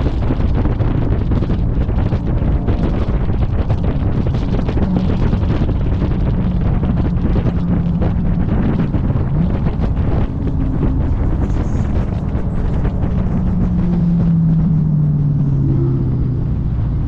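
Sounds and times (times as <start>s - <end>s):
car exhaust drone: 0.0s - 17.0s
wind buffeting microphone: 0.0s - 17.0s.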